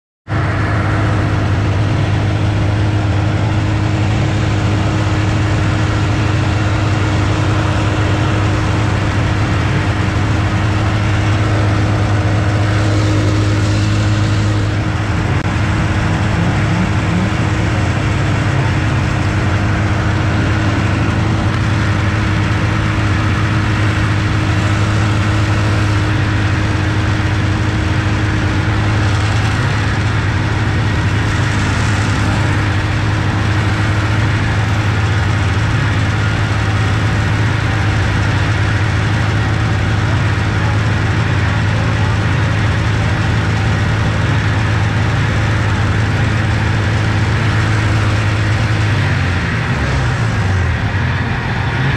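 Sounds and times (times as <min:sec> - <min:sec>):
snowmobile engine idling: 0:00.3 - 0:51.9.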